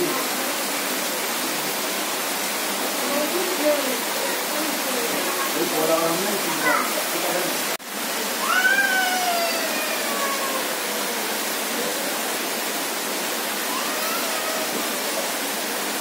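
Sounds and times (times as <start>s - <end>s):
heavy rain on water: 0.0s - 16.0s.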